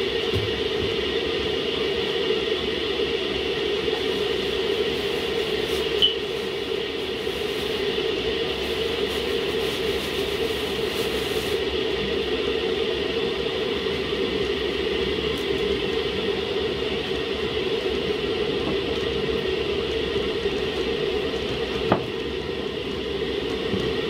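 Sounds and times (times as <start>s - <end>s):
pot boiling and bubbling: 0.0s - 24.0s.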